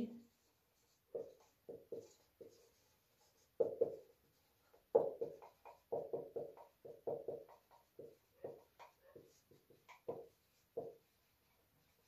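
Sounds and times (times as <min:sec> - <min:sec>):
marker pen writing on whiteboard: 0:00.2 - 0:12.0.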